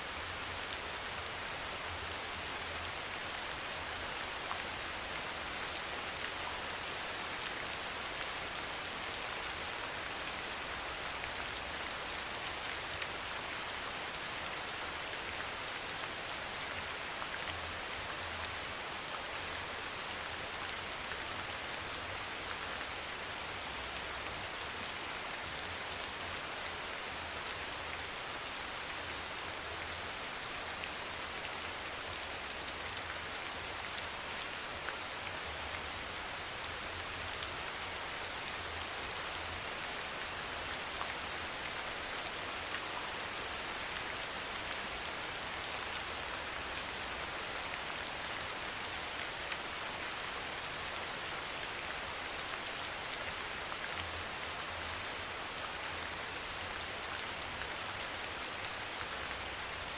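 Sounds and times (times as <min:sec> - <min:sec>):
soft rain hiss: 0:00.0 - 0:59.9.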